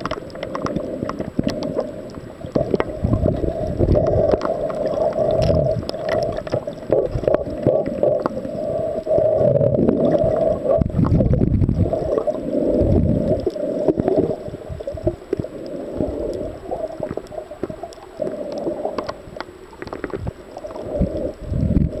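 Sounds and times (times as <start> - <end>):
sharp underwater clicks: 0.0 - 12.4, 13.0 - 21.9
muffled underwater sloshing: 0.0 - 22.0.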